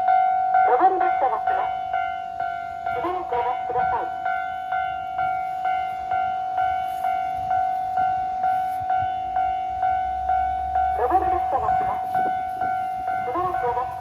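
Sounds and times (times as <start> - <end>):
level crossing bell ringing: 0.0 - 14.0.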